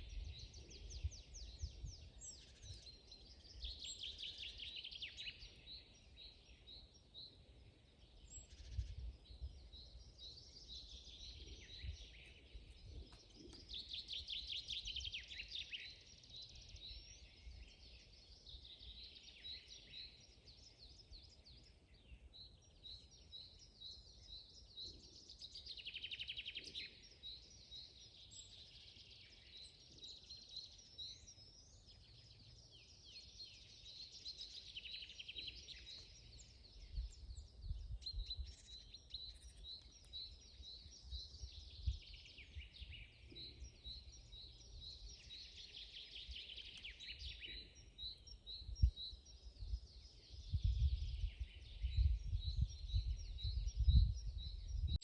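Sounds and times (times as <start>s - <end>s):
birds trilling songs: 0.0s - 55.0s
songbirds chirping: 0.0s - 55.0s.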